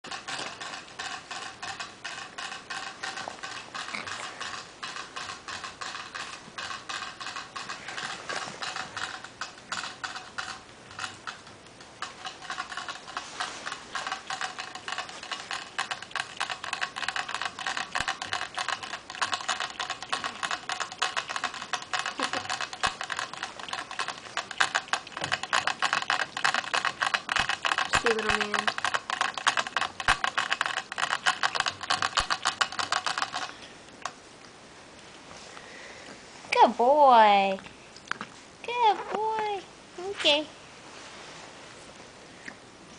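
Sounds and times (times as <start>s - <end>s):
puppy licking water bottle spout: 0.1s - 35.2s.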